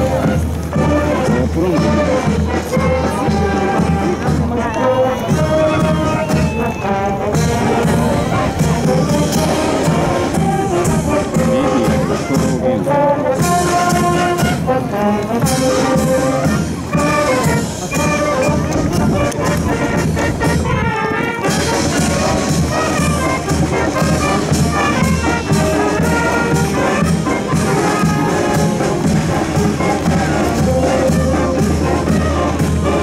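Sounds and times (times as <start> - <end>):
brass instruments playing tune: 0.0 - 33.0
snare and bass drums: 0.0 - 33.0.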